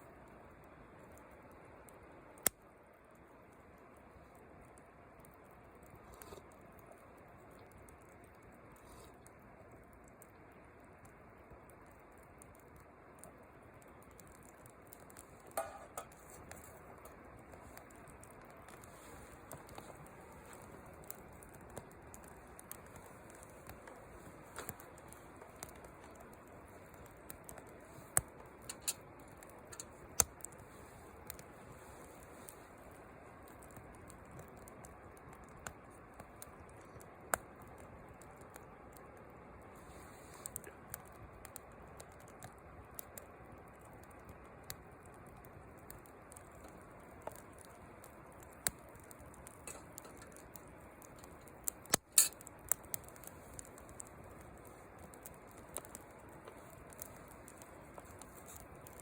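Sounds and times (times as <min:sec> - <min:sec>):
low steady hiss: 0:00.0 - 0:59.0
small clicks and ticks: 0:00.0 - 0:59.0
wood fire crackling: 0:00.0 - 0:59.0.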